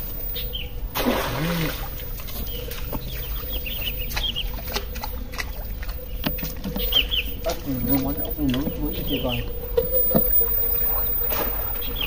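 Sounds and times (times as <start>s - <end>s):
chickens clucking: 1.5s - 12.0s.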